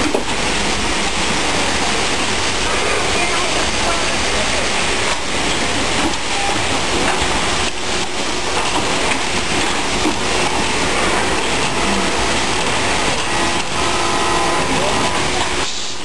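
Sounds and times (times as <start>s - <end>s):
many machines running: 0.0s - 16.0s.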